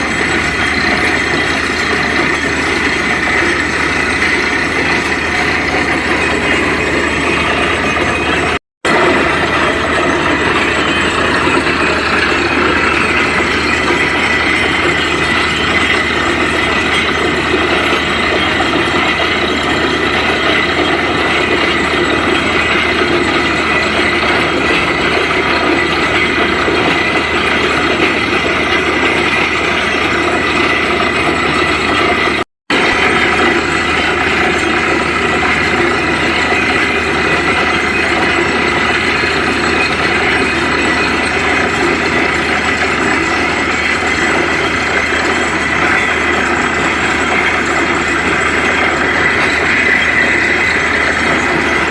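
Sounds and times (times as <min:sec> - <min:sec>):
drilling rig machinery din: 0:00.0 - 0:51.9.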